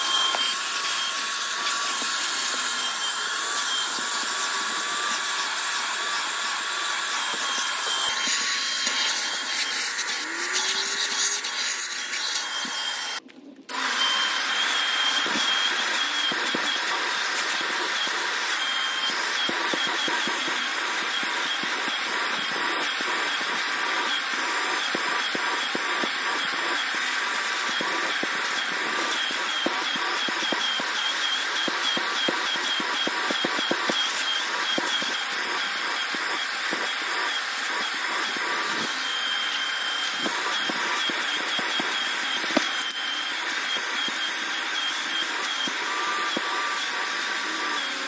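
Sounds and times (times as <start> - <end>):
vacuum cleaner whining: 0.0 - 48.0
vacuum nozzle scraping upholstery: 0.0 - 48.0.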